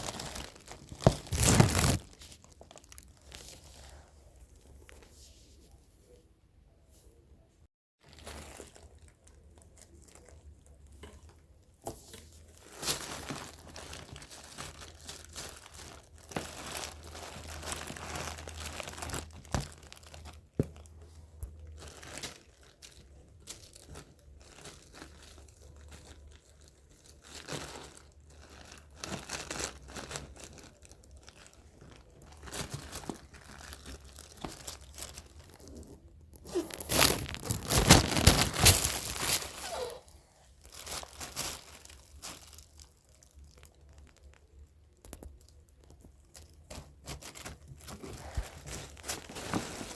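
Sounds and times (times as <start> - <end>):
material crinkling and rustling: 0.0 - 6.3, 8.0 - 49.9.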